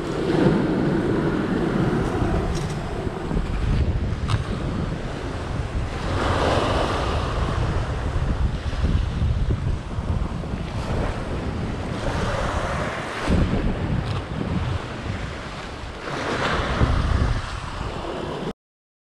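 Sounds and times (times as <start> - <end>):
waves breaking over rocks: 0.0 - 18.5
wind buffeting microphone: 0.0 - 18.5.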